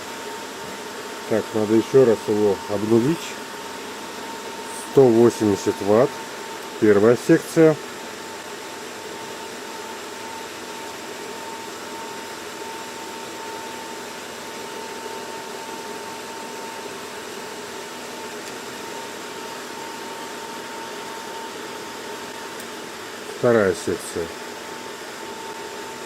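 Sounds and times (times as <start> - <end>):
electric fan blowing air: 0.0 - 26.0
thin fan whine: 0.0 - 26.0.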